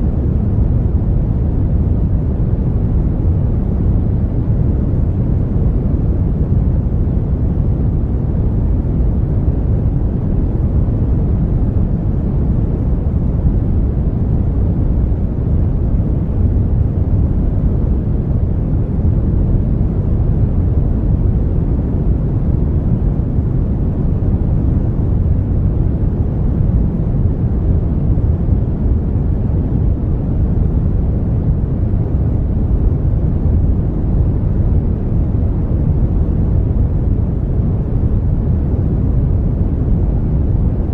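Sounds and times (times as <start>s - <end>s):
brown noise: 0.0s - 40.9s.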